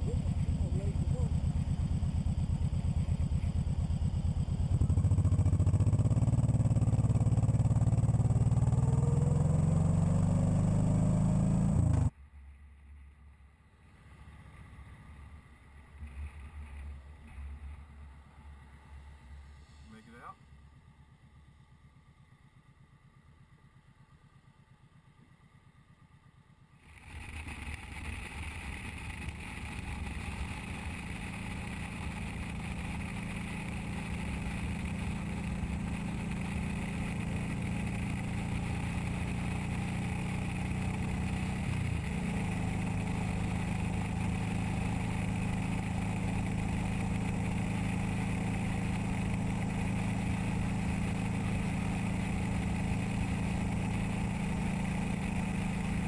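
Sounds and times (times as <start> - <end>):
motorcycle engine at speed: 0.0 - 12.2, 12.8 - 56.0
wind and road noise: 0.0 - 20.2, 26.8 - 56.0.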